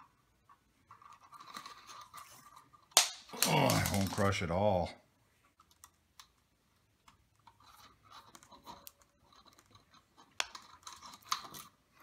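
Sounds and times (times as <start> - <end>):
wire cable rustling: 0.4 - 4.8, 5.4 - 12.0.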